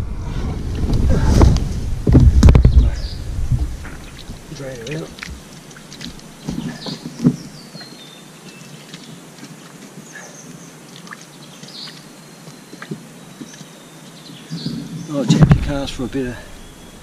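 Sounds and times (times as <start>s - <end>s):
rustling in undergrowth: 0.0s - 17.0s
high bird calls: 2.6s - 17.0s.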